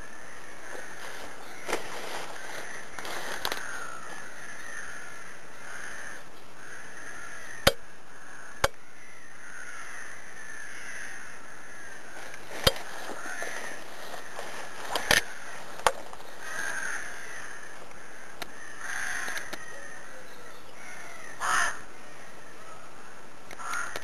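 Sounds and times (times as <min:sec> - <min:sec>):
crows cawing: 0:00.0 - 0:24.0.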